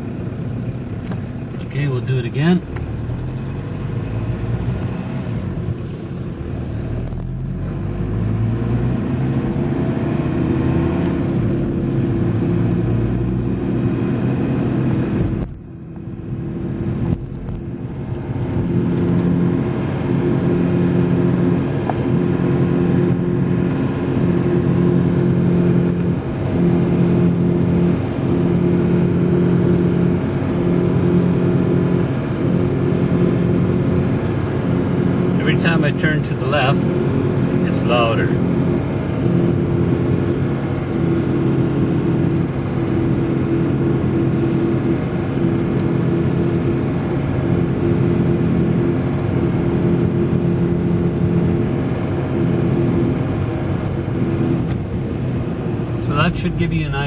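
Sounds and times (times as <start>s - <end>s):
diesel car engine accelerating: 0.0s - 57.0s.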